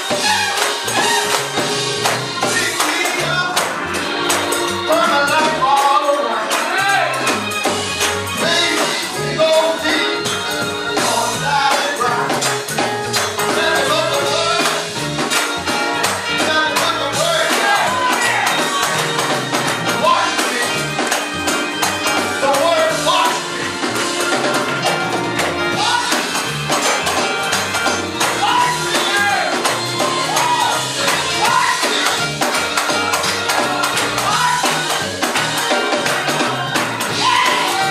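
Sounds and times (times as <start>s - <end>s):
gospel band playing: 0.0s - 37.9s
tambourine beat: 0.0s - 37.9s.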